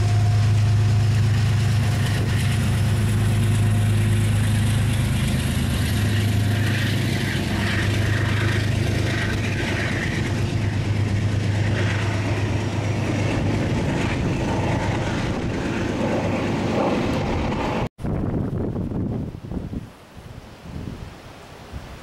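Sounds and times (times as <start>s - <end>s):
train engine hum: 0.0s - 19.4s
train rumbling rush: 0.0s - 19.9s.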